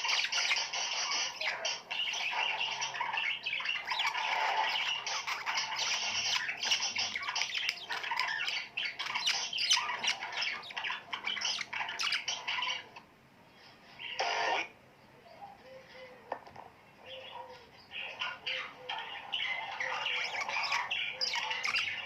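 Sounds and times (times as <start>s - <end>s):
birds chattering and squawking: 0.0s - 22.0s.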